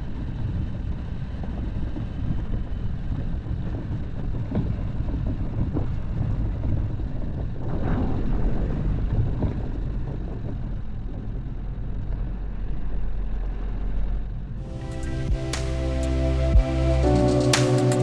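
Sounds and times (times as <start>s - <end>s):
car engine and road rumble: 0.0s - 17.6s.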